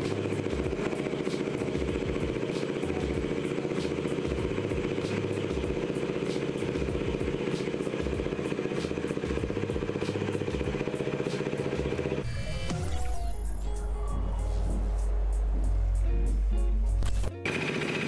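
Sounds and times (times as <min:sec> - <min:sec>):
motorcycle engine idling: 0:00.0 - 0:12.2, 0:14.9 - 0:18.0.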